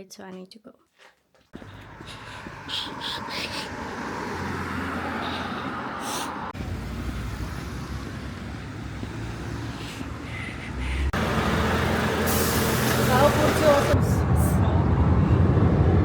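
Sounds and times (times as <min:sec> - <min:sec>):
road vehicle rumbling: 0:01.5 - 0:16.0.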